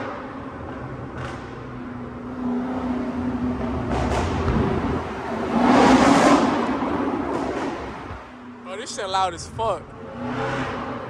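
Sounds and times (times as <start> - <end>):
loud car exhaust in tunnel: 0.0 - 11.0.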